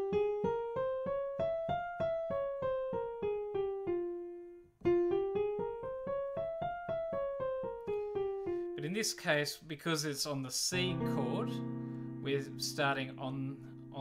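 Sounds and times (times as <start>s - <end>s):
piano playing a scale: 0.0s - 9.4s, 10.7s - 14.0s.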